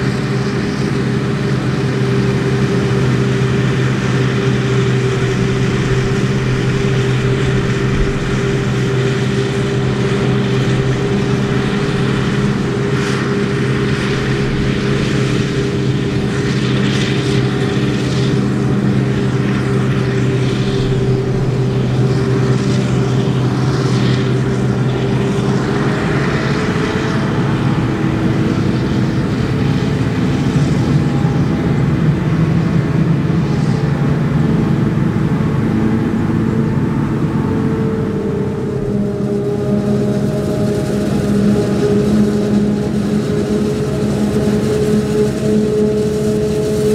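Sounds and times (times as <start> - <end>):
forage harvester droning: 0.0 - 46.9
tractor engine: 0.0 - 46.9.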